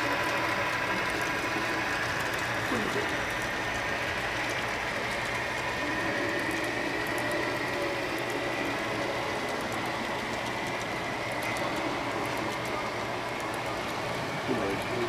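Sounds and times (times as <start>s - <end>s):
model train wheels whirring: 0.0s - 15.0s.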